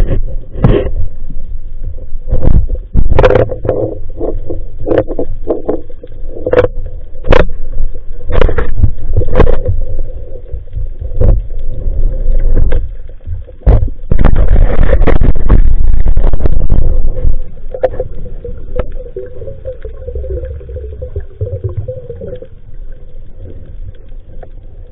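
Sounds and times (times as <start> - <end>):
muffled underwater rumble: 0.0 - 24.9.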